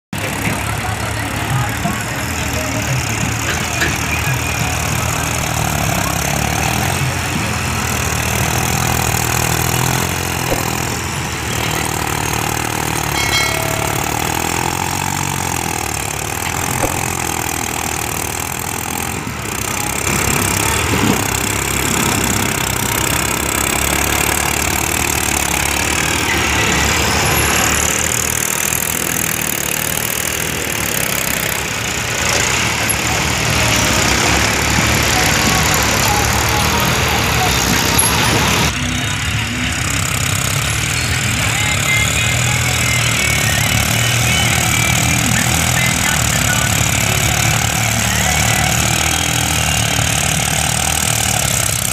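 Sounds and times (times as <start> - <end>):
tractor diesel engines under load: 0.0 - 51.9.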